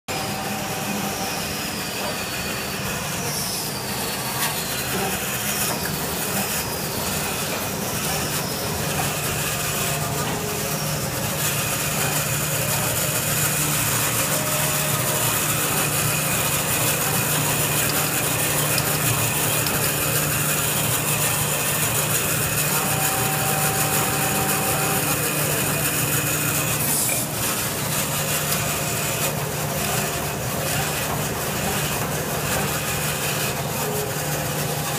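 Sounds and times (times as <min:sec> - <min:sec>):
band saw cutting paper: 0:00.1 - 0:34.9
conveyor running: 0:00.1 - 0:34.9.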